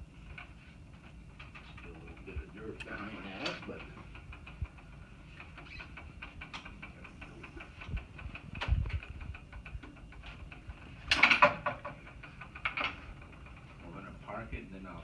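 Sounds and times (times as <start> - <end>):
wheelchair parts clicking: 0.2 - 14.2.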